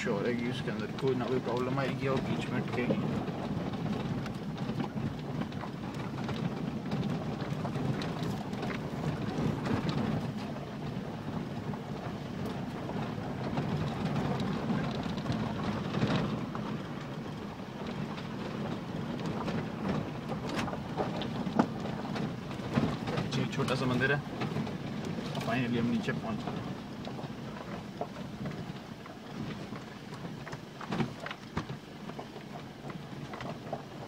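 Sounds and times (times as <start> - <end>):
engine and tyres rumbling: 0.0 - 34.0
knocks and rattles over bumps: 0.0 - 34.0.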